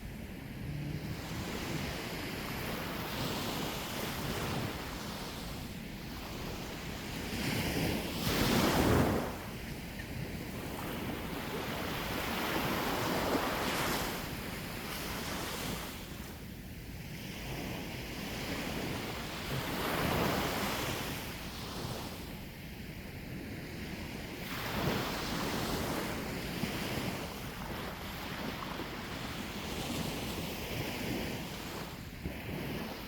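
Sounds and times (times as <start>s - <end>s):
sea waves breaking on shore: 0.0s - 33.0s
wind buffeting microphone: 0.0s - 33.0s.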